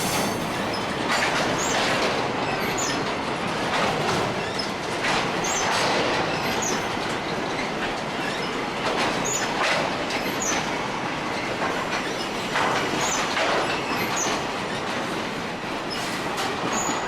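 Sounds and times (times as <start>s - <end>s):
train wheels clacking on rails: 0.0s - 17.0s.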